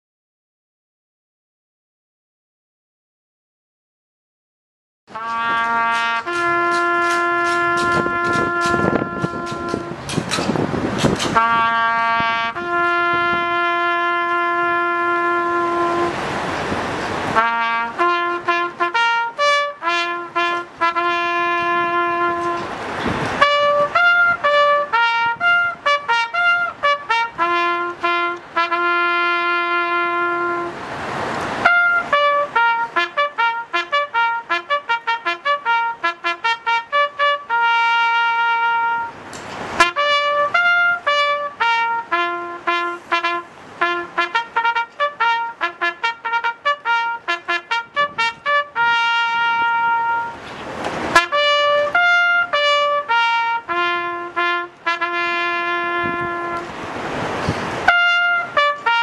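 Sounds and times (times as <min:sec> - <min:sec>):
solo trumpet playing: 0:05.1 - 0:59.0.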